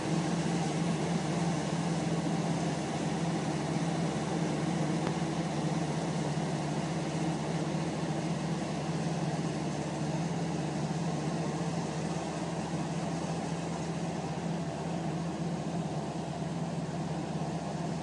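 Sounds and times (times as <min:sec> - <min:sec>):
farm machinery engine running: 0:00.0 - 0:18.0.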